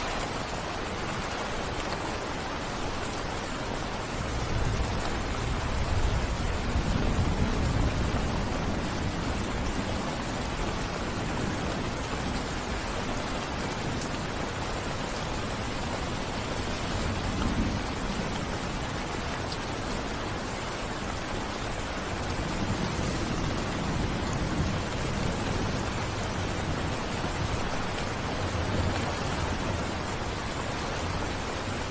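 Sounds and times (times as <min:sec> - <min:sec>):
heavy rain hissing: 0:00.0 - 0:31.9.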